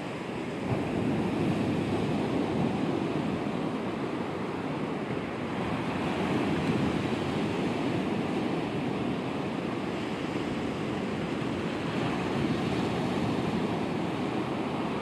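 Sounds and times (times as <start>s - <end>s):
waves washing up a beach: 0.0s - 15.0s.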